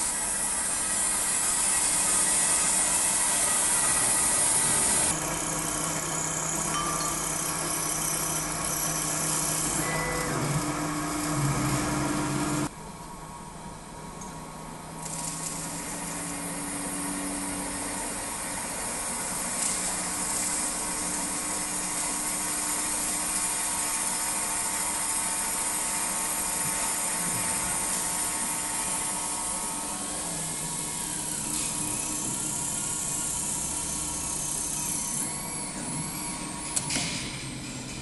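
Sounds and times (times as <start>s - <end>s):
drill spindle motor whining: 0.0s - 12.7s, 15.2s - 37.0s.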